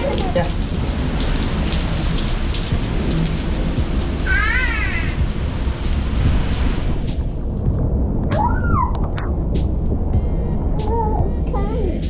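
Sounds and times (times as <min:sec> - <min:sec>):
heavy rain pouring: 0:00.0 - 0:10.0, 0:10.8 - 0:12.0.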